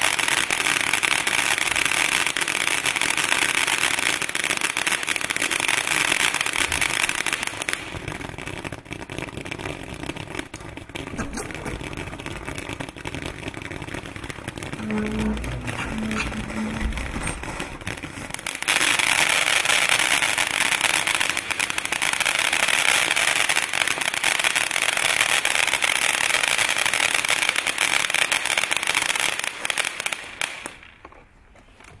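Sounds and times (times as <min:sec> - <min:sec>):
firework fountain hissing: 0:00.0 - 0:30.8
firework crackling: 0:00.0 - 0:31.2.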